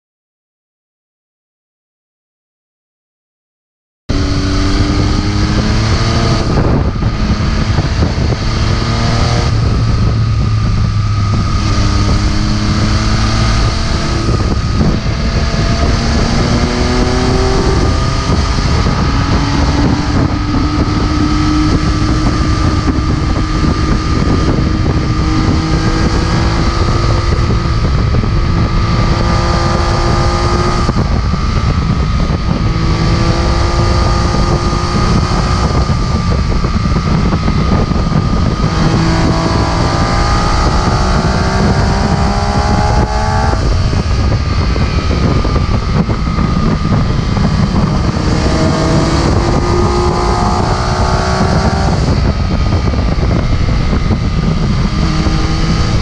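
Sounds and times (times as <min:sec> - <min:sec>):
motorcycle engine revving: 0:04.1 - 0:56.0
wind rushing over microphone: 0:04.1 - 0:56.0.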